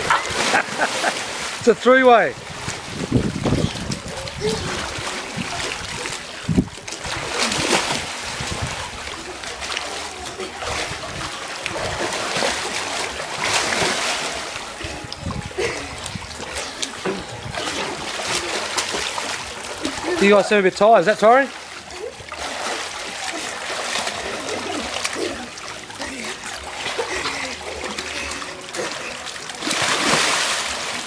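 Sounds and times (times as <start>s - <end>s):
pool water splashing and sloshing: 0.0s - 31.0s.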